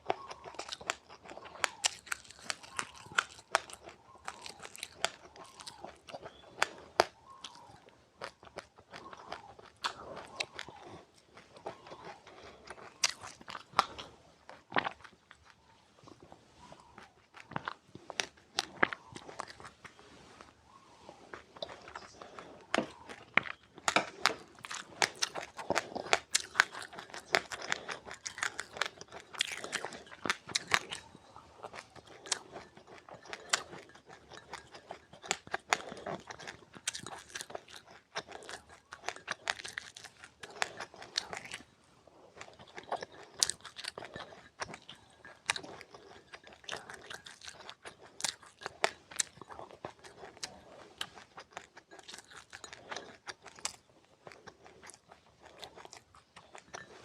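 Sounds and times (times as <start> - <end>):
chewing crunchy seeds: 0.0 - 57.0.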